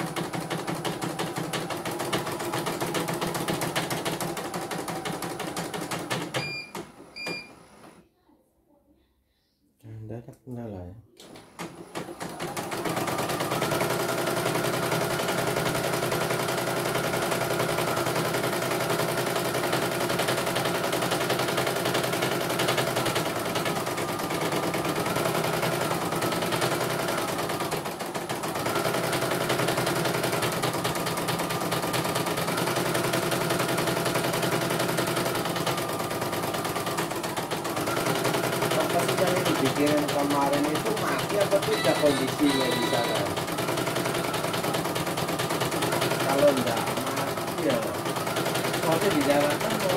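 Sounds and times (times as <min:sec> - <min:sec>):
embroidery machine stitching: 0:00.0 - 0:08.0, 0:11.2 - 0:49.9.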